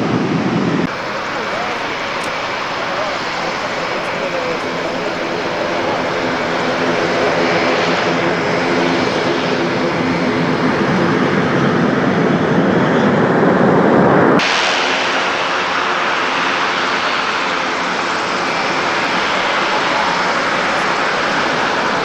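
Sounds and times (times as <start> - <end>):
turboprop engines droning: 0.9 - 13.6, 14.4 - 22.0.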